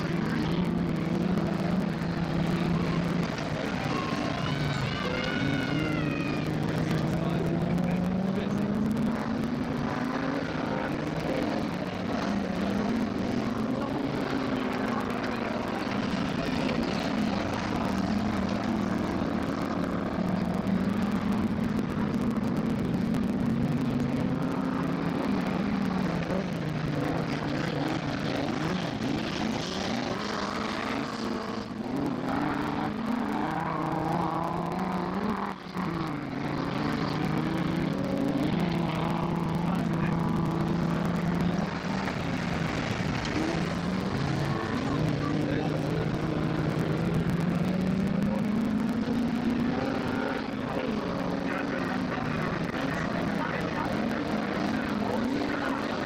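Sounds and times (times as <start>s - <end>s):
racing car engines accelerating: 0.0s - 56.0s.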